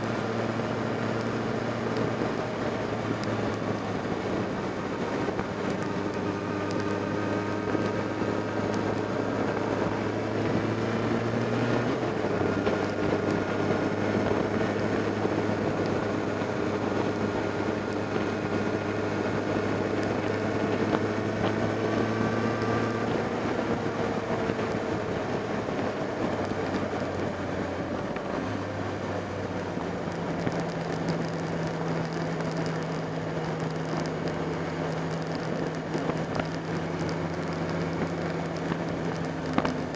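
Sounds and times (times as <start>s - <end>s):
motorcycle engine running: 0.0s - 39.9s
road noise: 0.0s - 39.9s
wind noise: 0.0s - 39.9s.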